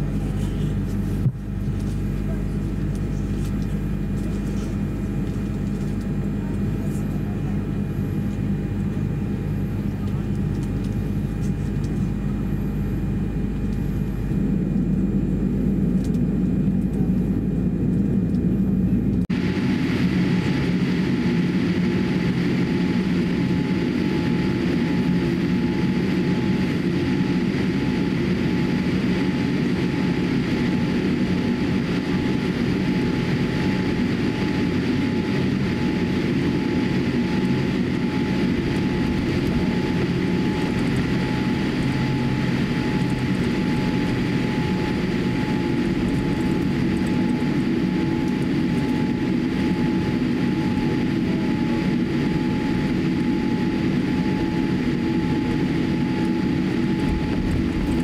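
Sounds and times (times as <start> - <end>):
aircraft cabin engine hum: 0.0 - 58.0.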